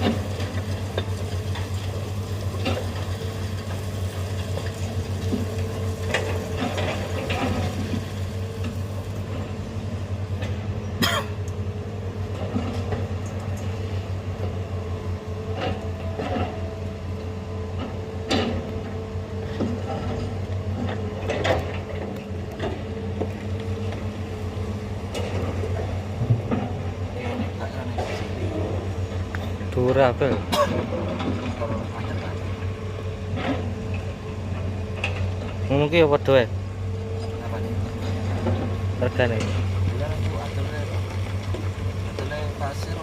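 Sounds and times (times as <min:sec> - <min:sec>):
diesel machinery humming: 0:00.0 - 0:43.0.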